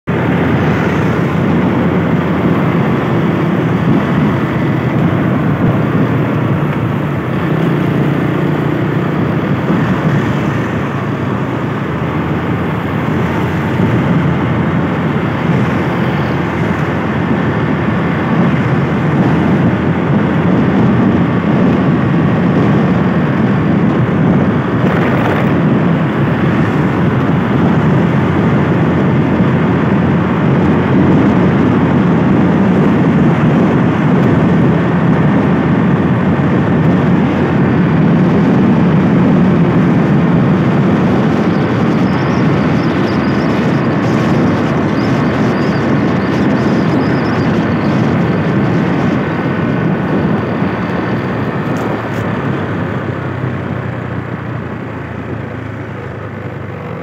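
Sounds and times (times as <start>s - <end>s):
wind rushing: 0.0s - 55.8s
road noise: 0.0s - 57.0s
wind buffeting microphone: 0.1s - 57.0s.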